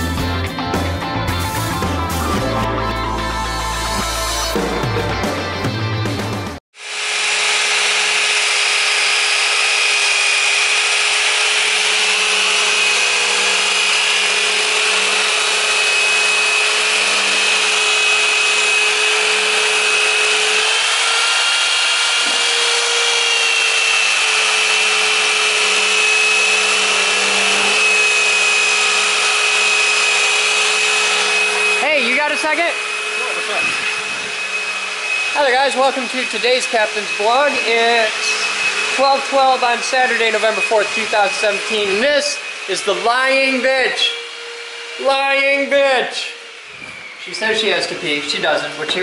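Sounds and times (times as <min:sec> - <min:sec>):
motor running with whine: 0:06.8 - 0:49.0.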